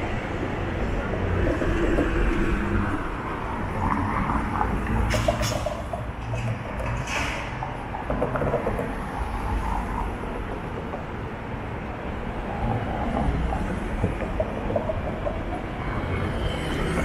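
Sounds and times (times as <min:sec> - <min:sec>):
city street noise: 0:00.0 - 0:17.0
tram rumbling along street: 0:00.0 - 0:17.0.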